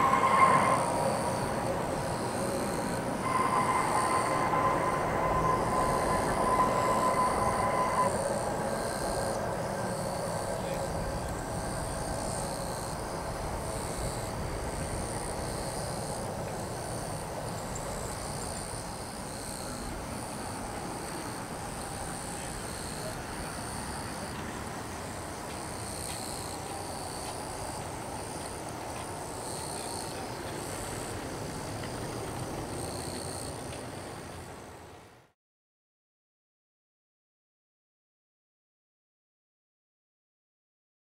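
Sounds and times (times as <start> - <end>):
distant jet engines rumbling: 0.0 - 34.9.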